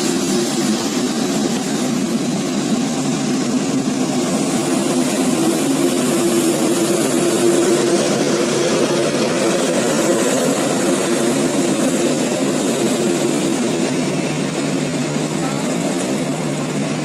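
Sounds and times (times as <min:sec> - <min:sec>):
jet engines humming: 0:00.0 - 0:17.0.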